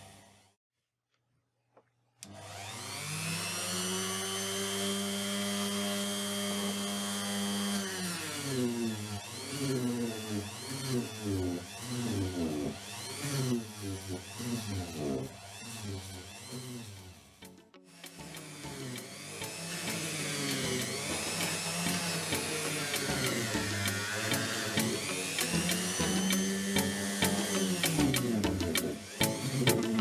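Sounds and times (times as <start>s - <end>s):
power tool whine on metal: 2.2s - 30.0s.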